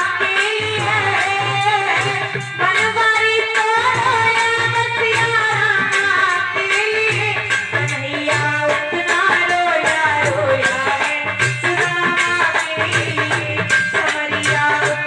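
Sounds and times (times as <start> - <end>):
hand percussion beat: 0.0 - 15.0.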